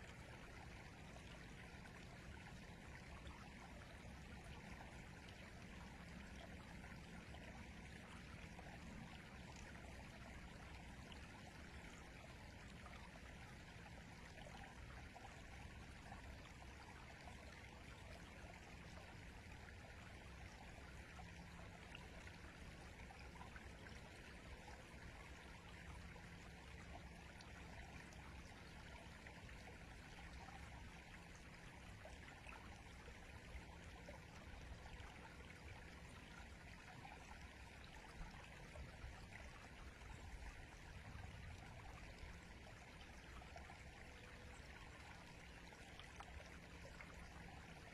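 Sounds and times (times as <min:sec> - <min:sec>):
river water flowing: 0:00.0 - 0:47.9.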